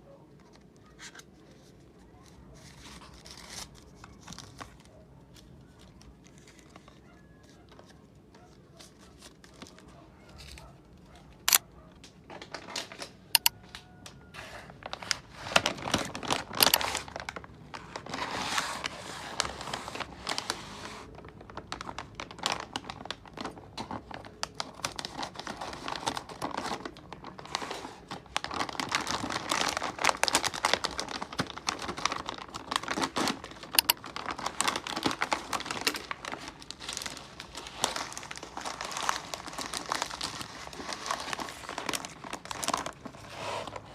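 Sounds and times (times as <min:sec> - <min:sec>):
packaging crinkling: 0:00.4 - 0:14.0, 0:14.8 - 0:43.9.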